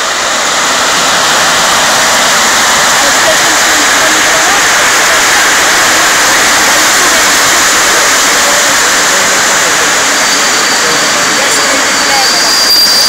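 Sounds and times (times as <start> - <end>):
train coaches rolling past: 0.0 - 13.0.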